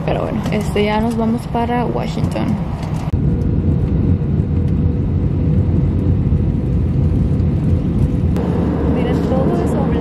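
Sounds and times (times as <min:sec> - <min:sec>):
jet engine and airflow rumble: 0:00.0 - 0:10.0.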